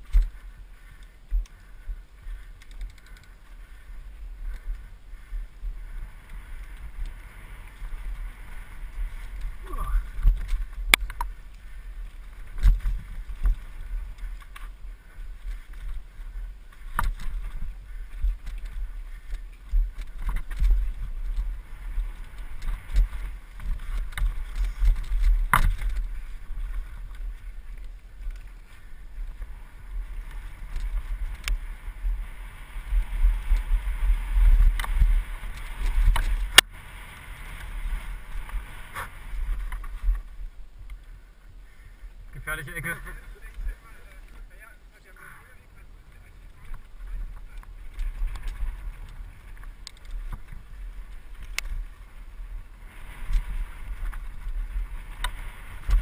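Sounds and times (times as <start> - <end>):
bike rattling over stones: 0.0 - 56.0
wind rumble on microphone: 0.0 - 56.0.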